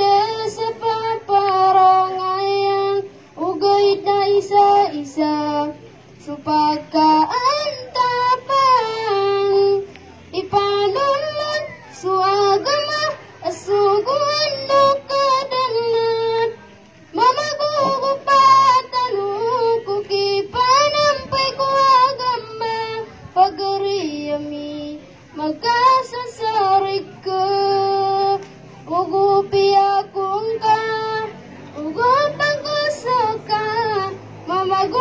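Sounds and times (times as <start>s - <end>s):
boy singing into microphone: 0.0s - 35.0s.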